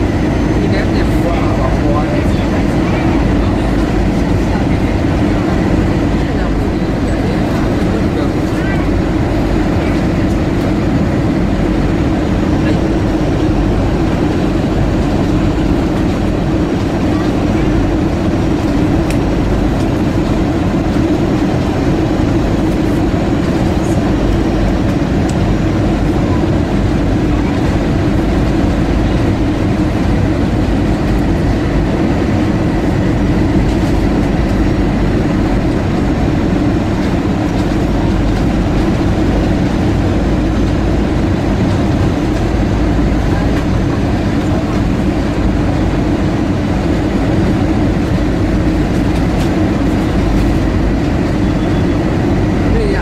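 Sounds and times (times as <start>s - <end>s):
airliner cabin noise: 0.0s - 53.0s.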